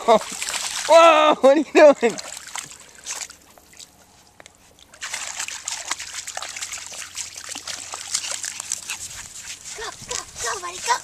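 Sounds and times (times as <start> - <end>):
dogs splashing through water: 0.0 - 11.0.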